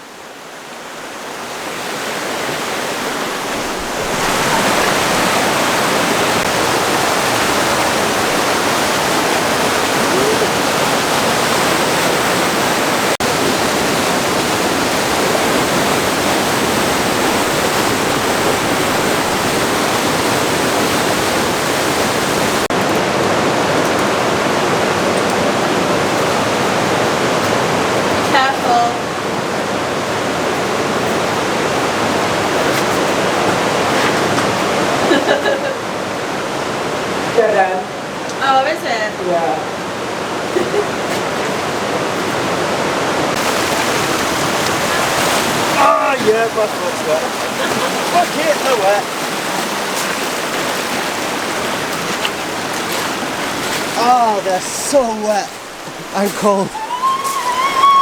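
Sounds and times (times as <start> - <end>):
rush of fast-flowing stream: 0.0 - 58.0.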